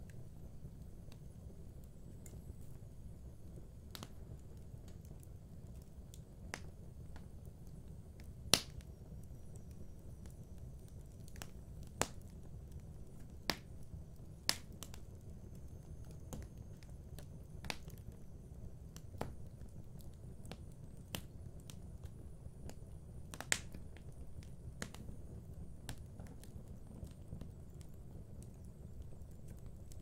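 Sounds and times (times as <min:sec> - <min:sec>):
fire crackling and popping: 0:00.0 - 0:30.0.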